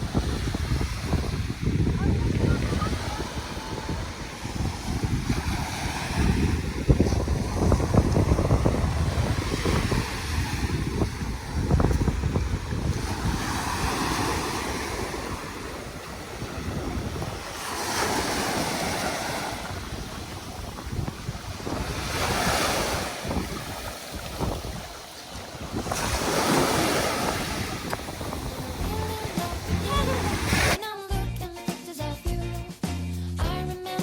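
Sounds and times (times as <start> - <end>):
surf breaking on beach: 0.0 - 30.8
wind buffeting microphone: 0.0 - 30.8.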